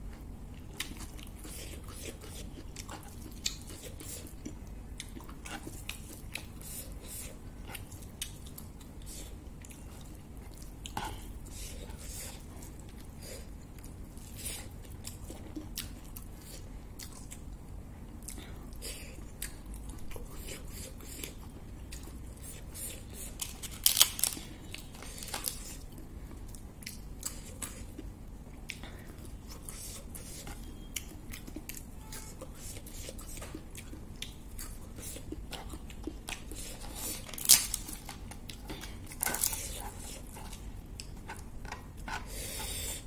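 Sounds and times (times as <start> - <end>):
crunching and chewing: 0.0 - 43.0.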